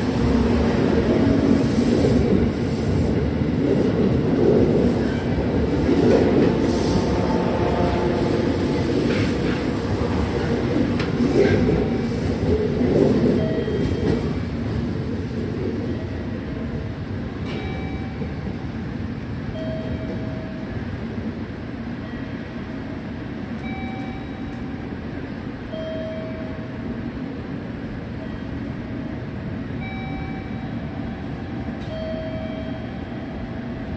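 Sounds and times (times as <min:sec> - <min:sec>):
electric train rumble: 0:00.0 - 0:33.9.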